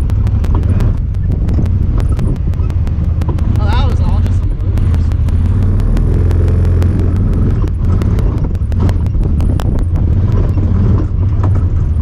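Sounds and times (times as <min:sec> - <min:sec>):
sharp clicks and rattles: 0:00.0 - 0:12.0
vehicle engine running: 0:00.0 - 0:12.0.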